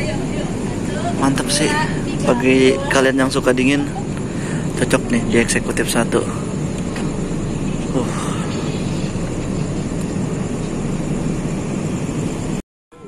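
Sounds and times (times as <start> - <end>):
train diesel engines rumbling: 0.0 - 13.0.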